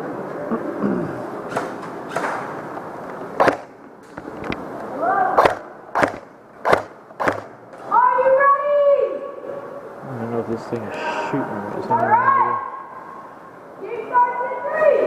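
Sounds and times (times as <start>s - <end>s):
murmur of people talking: 0.0s - 15.0s.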